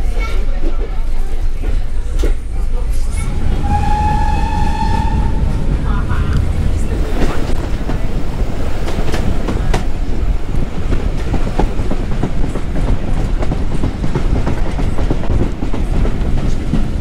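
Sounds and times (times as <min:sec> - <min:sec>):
train carriage rumbling: 0:00.0 - 0:17.0.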